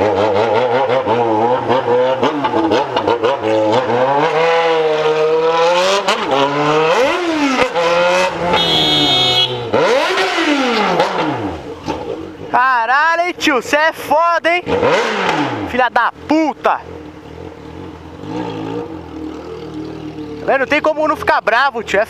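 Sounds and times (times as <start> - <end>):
motorcycle engine revving: 0.0 - 12.5, 14.6 - 21.4.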